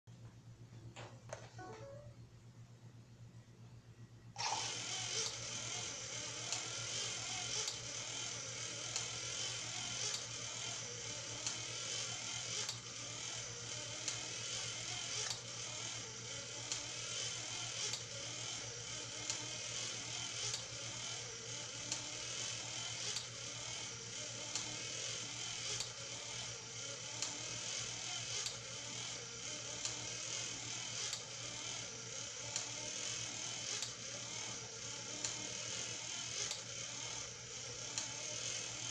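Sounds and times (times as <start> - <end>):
small electric motor driving gears: 4.4 - 38.9.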